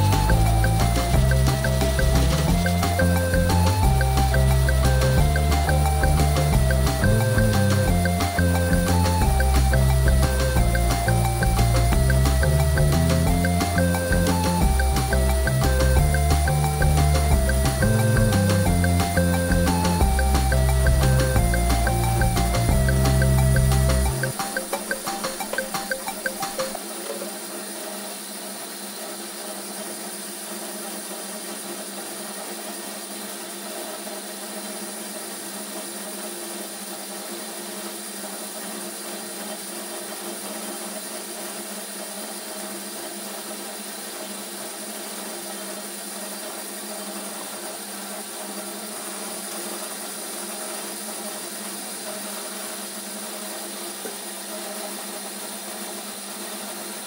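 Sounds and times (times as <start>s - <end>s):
electric pellet mill running: 0.0s - 57.0s.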